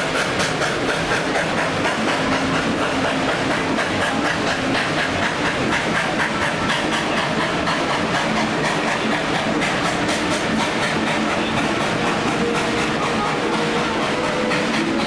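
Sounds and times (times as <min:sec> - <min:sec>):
steam train rumbling along track: 0:00.0 - 0:15.0.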